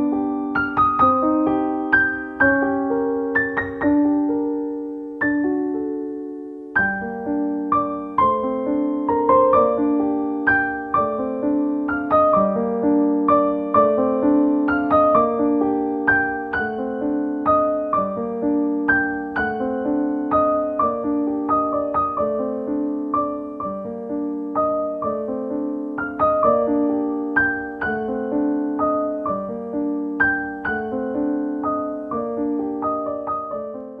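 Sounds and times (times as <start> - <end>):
gentle piano music: 0.0 - 34.0.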